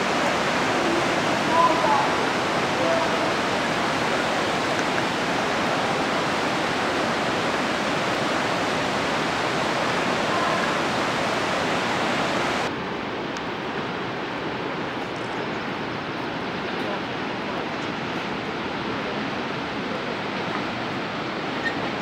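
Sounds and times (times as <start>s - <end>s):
river rushing over boulders: 0.0s - 22.0s.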